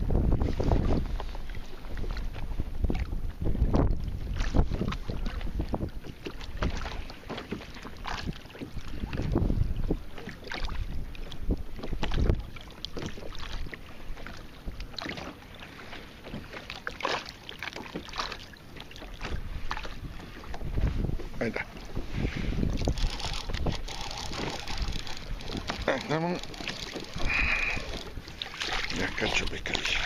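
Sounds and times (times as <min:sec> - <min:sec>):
wind buffeting microphone: 0:00.0 - 0:07.1, 0:07.9 - 0:14.8, 0:19.0 - 0:30.0
waves slapping against kayak hull: 0:00.0 - 0:30.0.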